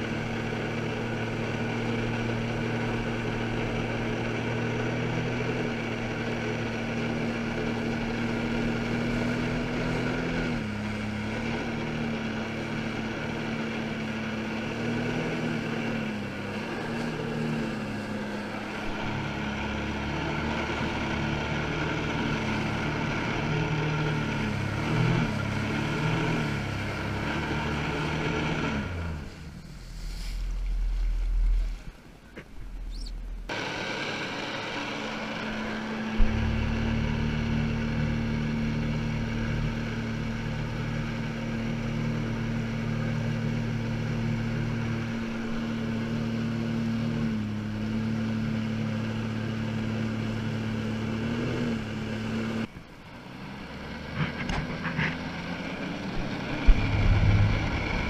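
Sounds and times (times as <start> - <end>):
jet ski engine running: 0.0 - 58.0.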